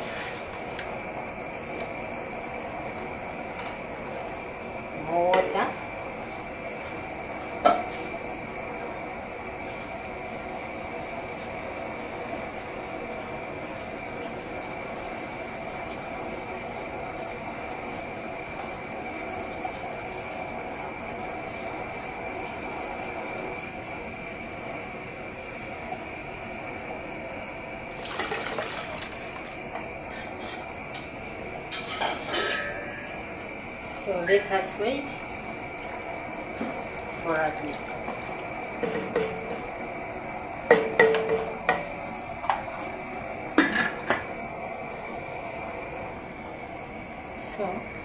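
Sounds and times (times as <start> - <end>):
sauce simmering with a hiss: 0.0 - 48.0.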